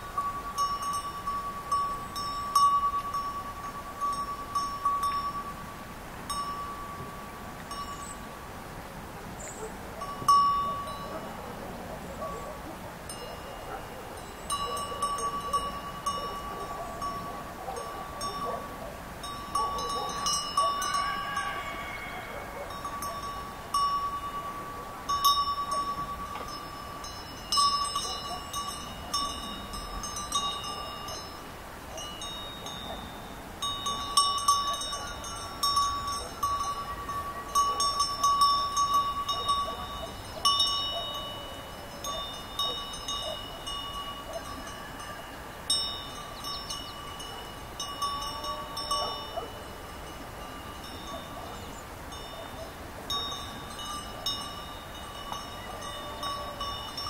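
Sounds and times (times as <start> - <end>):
sheep bells clanking: 0.0 - 8.2, 10.0 - 11.3, 13.1 - 57.0.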